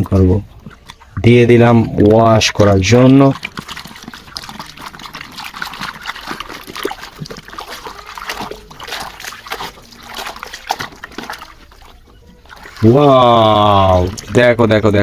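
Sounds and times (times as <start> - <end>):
water sloshing in a tub: 0.0 - 15.0.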